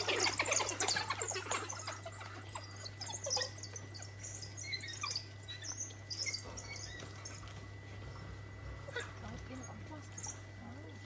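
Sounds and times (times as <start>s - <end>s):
wild dogs twittering and squealing: 0.0s - 10.6s
steady low hum: 0.0s - 11.0s.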